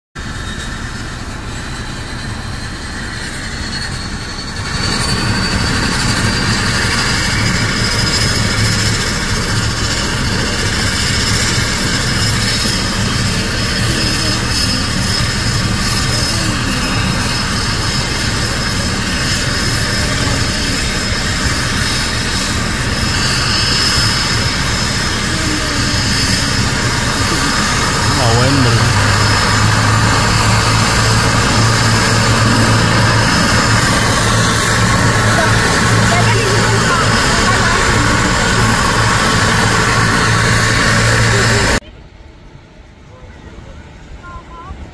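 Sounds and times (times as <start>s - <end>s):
high turbine whine: 0.2s - 44.9s
turboprop engines running: 0.2s - 44.9s.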